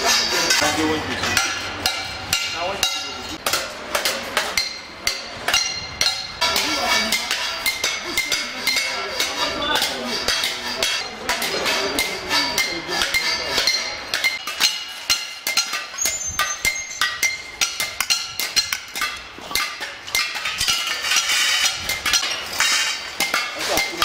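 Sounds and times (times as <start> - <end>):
hammering on metal: 0.0 - 24.0
steel tubing clanking: 0.0 - 24.0.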